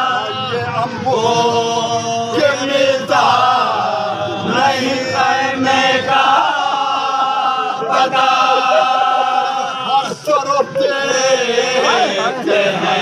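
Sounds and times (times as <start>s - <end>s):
man reciting verses: 0.0s - 13.0s
men chanting a lament: 0.0s - 13.0s.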